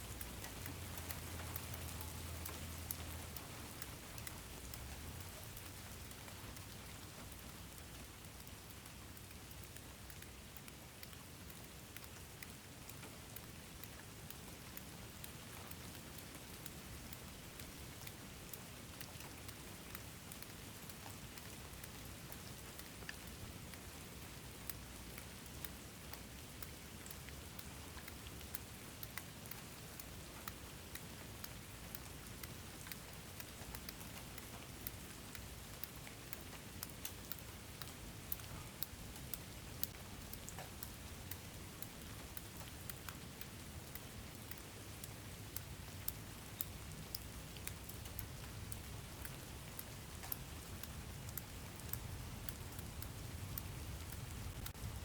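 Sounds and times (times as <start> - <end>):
raindrops ticking on surface: 0.0 - 55.0.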